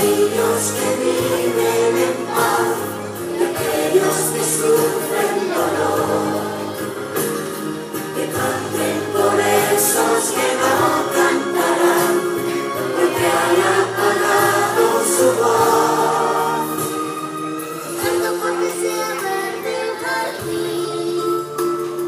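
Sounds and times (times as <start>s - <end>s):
children's choir singing: 0.0s - 22.0s
musical accompaniment: 0.0s - 22.0s.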